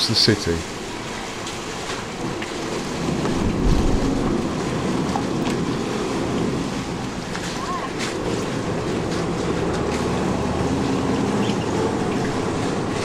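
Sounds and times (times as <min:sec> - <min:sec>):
boat engine rumbling: 0:00.0 - 0:13.0
water churning: 0:00.0 - 0:13.0.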